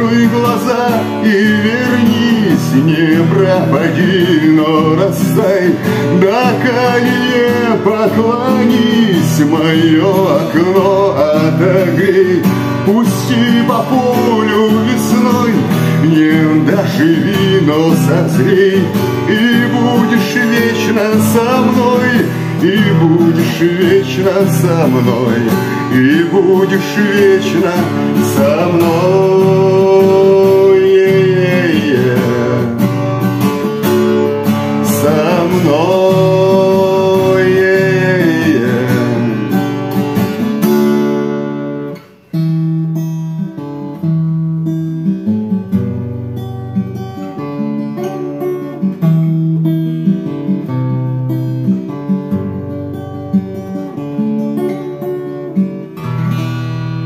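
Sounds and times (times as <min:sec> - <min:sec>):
acoustic guitar picked melody: 0:00.0 - 0:57.0
wordless melody with accompaniment: 0:00.0 - 0:57.0.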